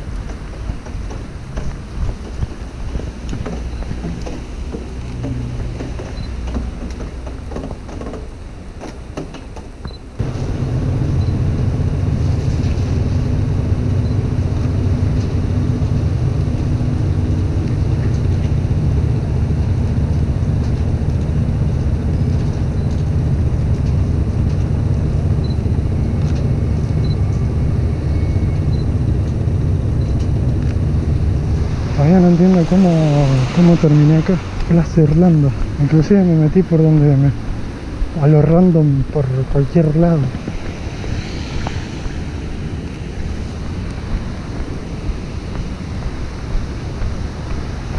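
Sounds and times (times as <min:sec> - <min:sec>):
low rumble of city street noise: 0:00.0 - 0:47.9.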